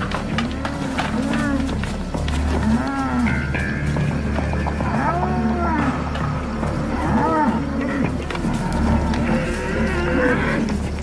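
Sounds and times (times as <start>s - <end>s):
bulls bellowing: 0.0s - 11.0s.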